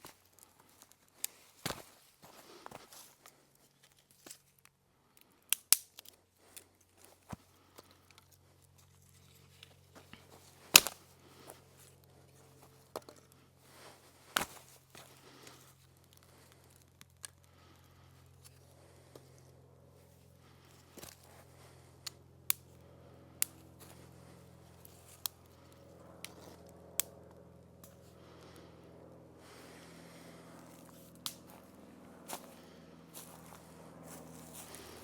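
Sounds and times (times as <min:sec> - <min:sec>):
camping gear rustling: 0:00.0 - 0:04.7, 0:06.0 - 0:22.1, 0:23.4 - 0:26.7, 0:29.4 - 0:35.0
faint low hum: 0:06.2 - 0:35.0.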